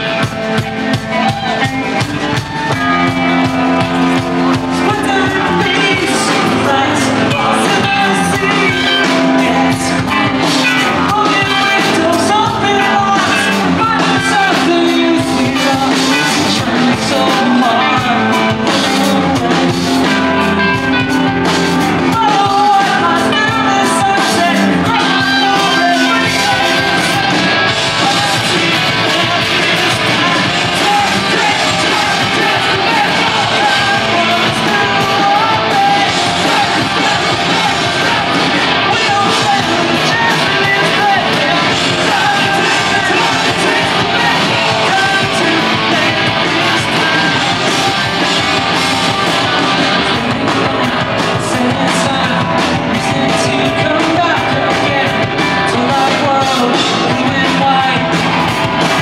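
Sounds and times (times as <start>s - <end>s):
person singing and shouting: 0.0s - 59.0s
rock band playing: 0.0s - 59.0s.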